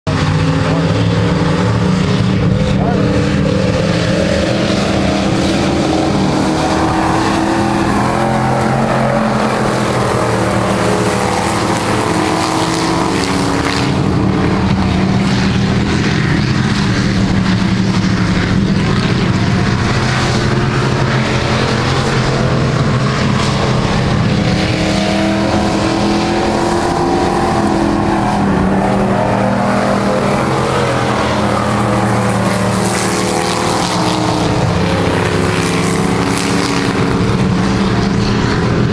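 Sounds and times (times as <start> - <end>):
truck engines droning: 0.0 - 38.9.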